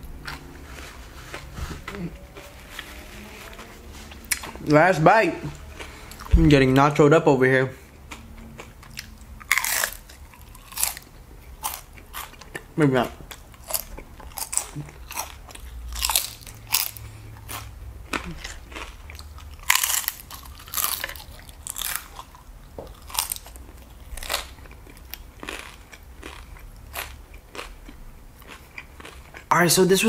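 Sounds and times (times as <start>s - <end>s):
tortilla chips crunching: 0.0s - 6.5s, 8.1s - 29.5s.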